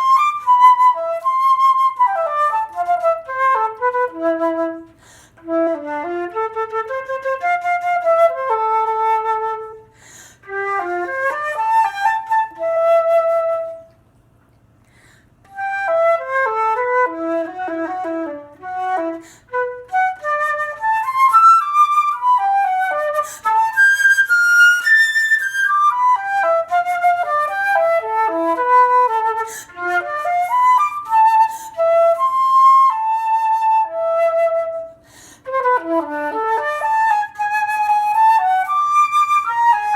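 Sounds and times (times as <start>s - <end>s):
solo flute playing fast phrases: 0.0s - 14.0s, 15.5s - 39.9s.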